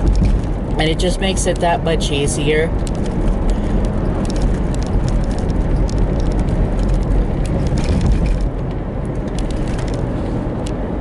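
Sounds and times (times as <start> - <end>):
light ticks and rattles: 0.0 - 1.8, 2.6 - 10.8
car cabin road and engine rumble: 0.0 - 11.0.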